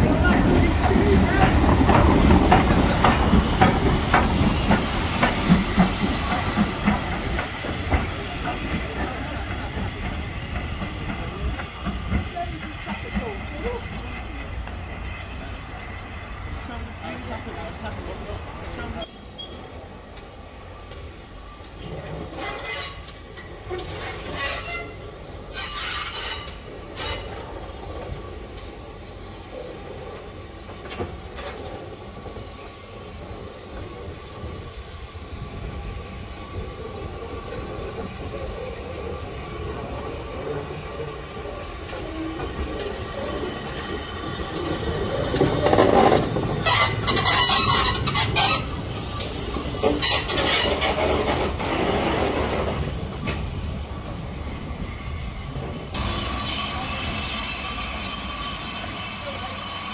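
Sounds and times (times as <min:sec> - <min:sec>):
steam locomotive running: 0:00.0 - 0:59.9.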